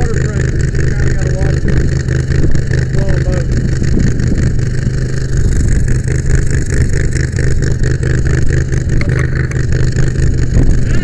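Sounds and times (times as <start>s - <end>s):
fire truck engine running: 0.0s - 11.0s.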